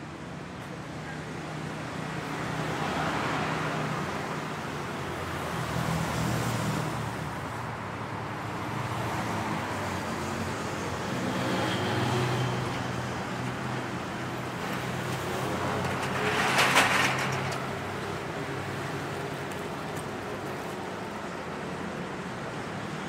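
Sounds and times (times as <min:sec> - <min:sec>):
cars passing: 0:02.0 - 0:23.0.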